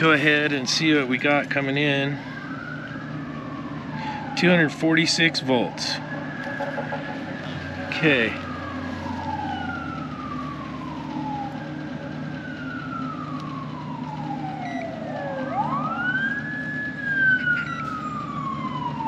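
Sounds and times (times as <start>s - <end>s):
emergency siren wailing: 0.0s - 19.0s
steady low hum: 0.0s - 19.0s.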